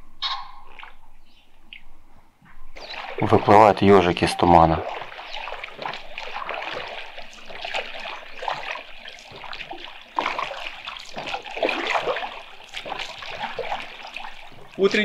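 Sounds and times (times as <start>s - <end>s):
water dripping and trickling: 0.4s - 1.9s, 2.7s - 15.0s
oars splashing in water: 2.7s - 15.0s.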